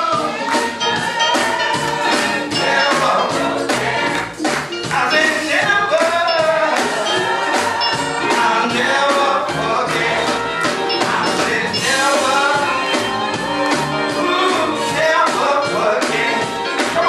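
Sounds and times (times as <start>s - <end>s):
live gospel singing with band: 0.0s - 17.0s.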